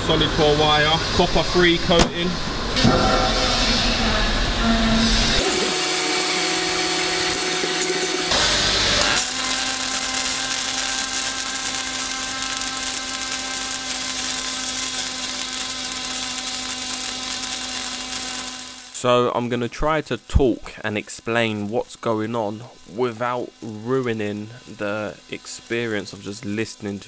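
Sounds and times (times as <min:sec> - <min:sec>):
welding machine hum: 0:05.0 - 0:27.0
welding arc hiss: 0:05.3 - 0:27.0.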